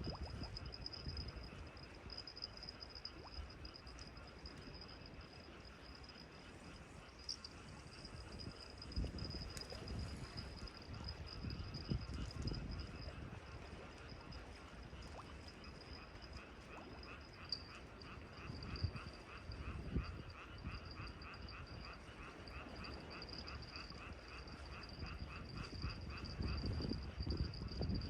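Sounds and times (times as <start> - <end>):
insect trill: 0.0 - 28.0.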